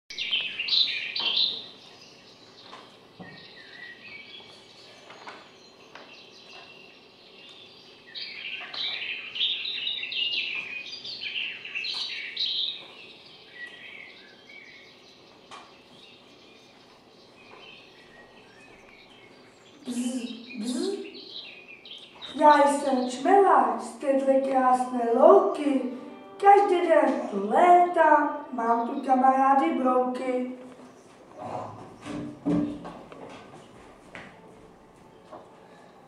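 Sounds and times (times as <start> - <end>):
small birds chirping: 0.1 - 32.9.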